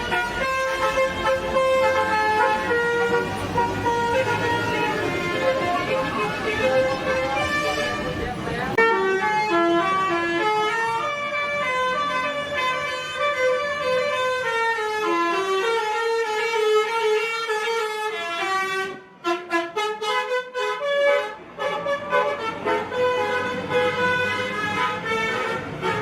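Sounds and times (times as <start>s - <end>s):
bus musical horn tune: 0.0s - 26.0s.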